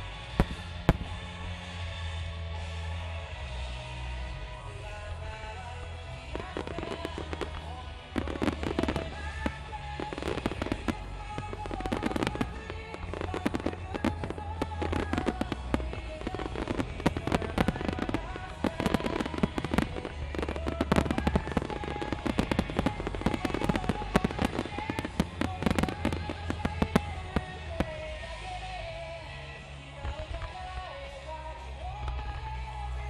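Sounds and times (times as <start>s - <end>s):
deep rumble: 0.0s - 2.7s, 4.3s - 31.0s
fireworks bursting and crackling: 0.0s - 33.0s
music playing: 0.0s - 33.0s.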